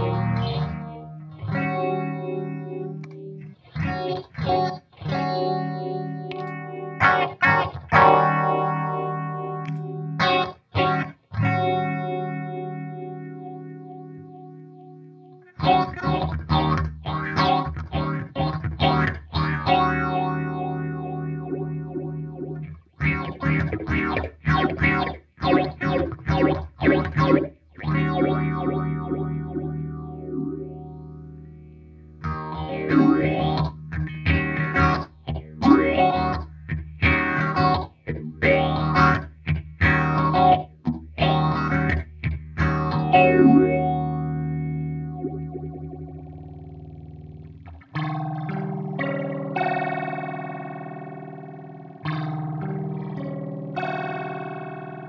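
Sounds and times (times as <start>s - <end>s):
electric guitar chords with phaser: 0.0s - 55.0s.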